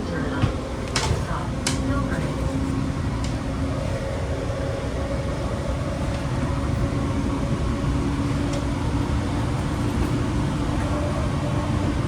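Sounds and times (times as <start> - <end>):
train rumble inside coach: 0.0 - 12.0.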